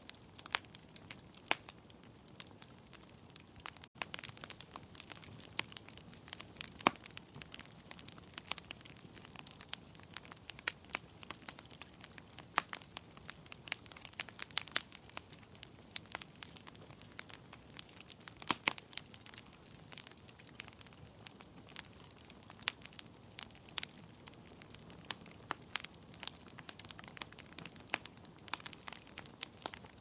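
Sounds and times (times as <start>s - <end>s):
logs burning and crackling: 0.0s - 30.0s
sharp pops from fire: 0.0s - 30.0s.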